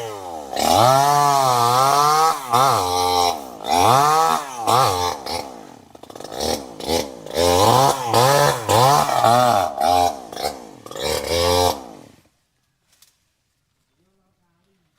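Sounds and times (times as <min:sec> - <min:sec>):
chainsaw engine revving: 0:00.0 - 0:12.3.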